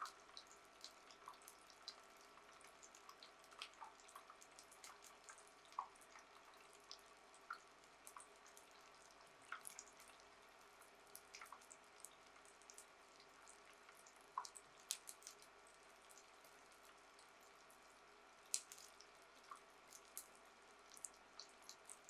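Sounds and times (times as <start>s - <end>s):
oil crackles and pops: 0.0s - 22.0s
tofu deep-frying in oil: 0.0s - 22.0s.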